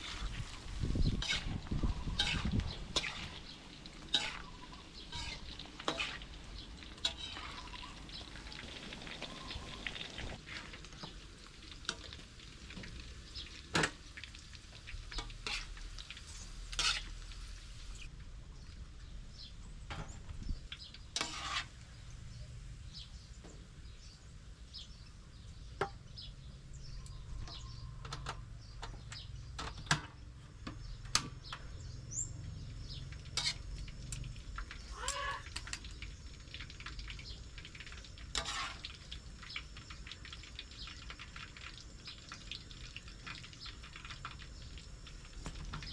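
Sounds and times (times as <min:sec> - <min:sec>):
faint frying sizzle: 0:00.0 - 0:45.9.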